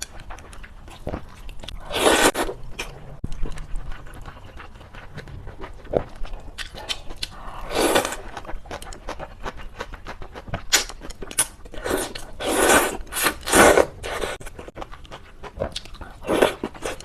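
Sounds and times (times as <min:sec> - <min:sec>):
close-up eating and chewing: 0:00.0 - 0:17.0.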